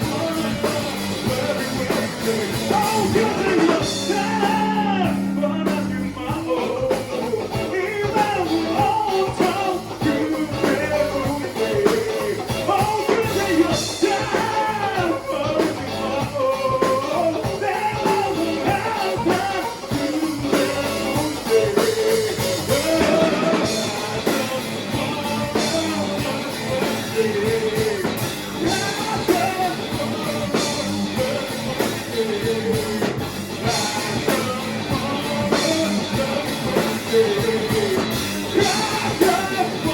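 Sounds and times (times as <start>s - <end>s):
person singing: 0.0s - 39.9s
rock band playing: 0.0s - 39.9s.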